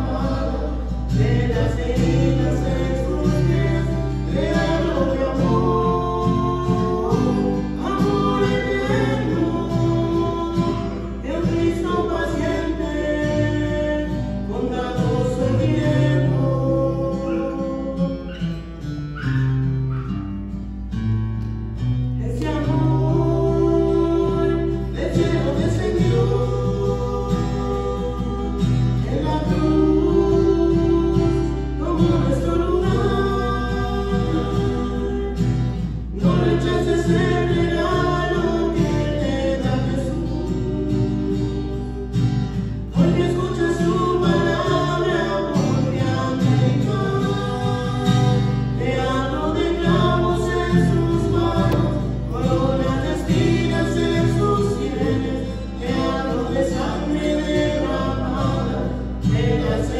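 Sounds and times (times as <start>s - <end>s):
voices singing: 0.0s - 20.6s, 22.2s - 59.9s
acoustic guitar: 0.0s - 59.9s.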